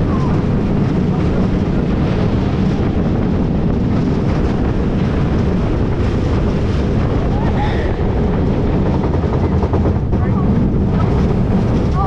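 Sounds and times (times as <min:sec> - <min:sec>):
roller coaster rumbling on track: 0:00.0 - 0:12.0
wind buffeting microphone: 0:00.0 - 0:12.0.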